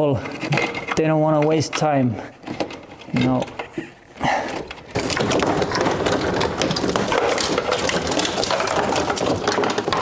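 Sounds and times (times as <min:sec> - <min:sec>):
tool clicking and rattling: 0:00.1 - 0:03.7, 0:04.5 - 0:10.0.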